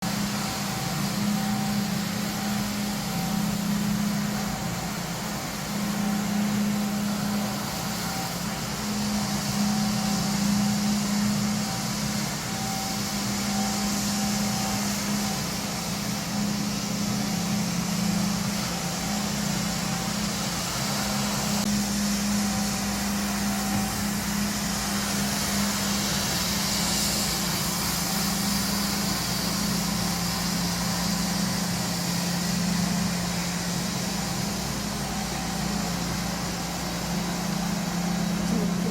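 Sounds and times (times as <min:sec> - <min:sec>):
floor scrubber motor humming: 0:00.2 - 0:38.9.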